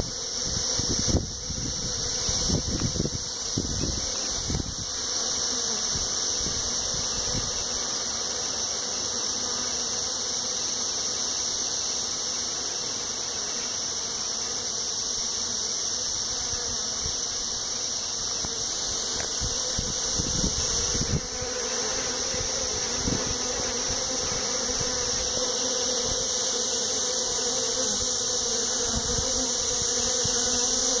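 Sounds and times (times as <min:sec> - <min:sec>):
honeybees buzzing: 0:00.0 - 0:31.0.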